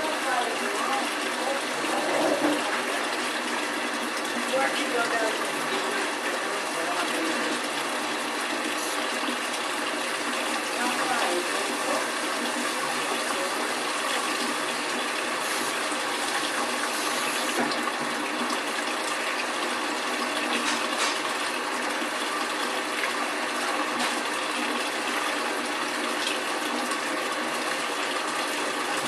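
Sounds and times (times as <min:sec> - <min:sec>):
washing machine water rushing: 0:00.0 - 0:29.0.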